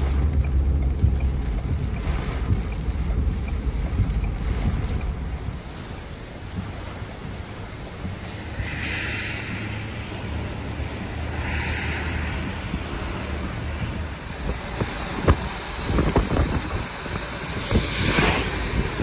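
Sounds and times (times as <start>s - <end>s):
passing whooshes: 0.0s - 19.0s
wind and road noise: 0.0s - 19.0s.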